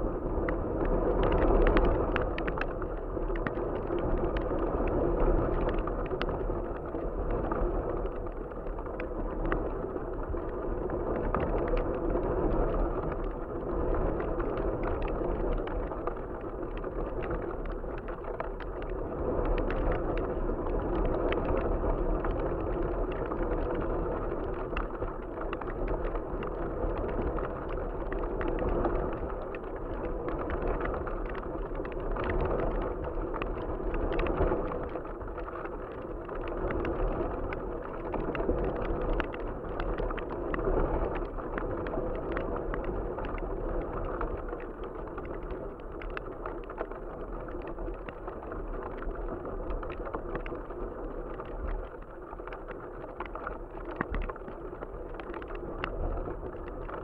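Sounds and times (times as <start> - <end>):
kite sail fluttering and crackling: 0.0 - 57.0.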